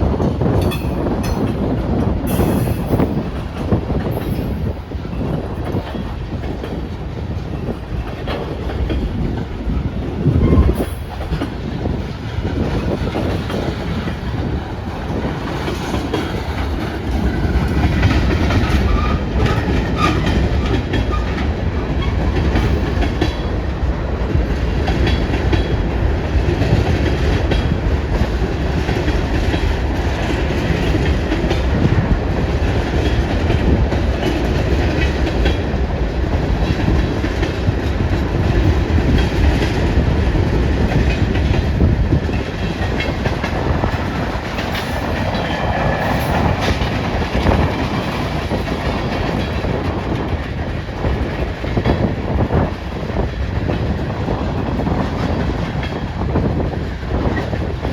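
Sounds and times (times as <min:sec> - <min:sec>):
train wheels clacking over rail joints: 0:00.0 - 0:57.9
wind buffeting microphone: 0:00.0 - 0:57.9.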